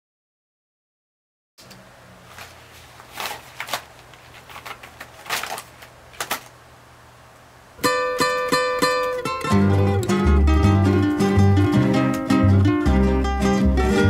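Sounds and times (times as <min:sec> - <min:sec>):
faint steady hum: 0:01.6 - 0:14.0.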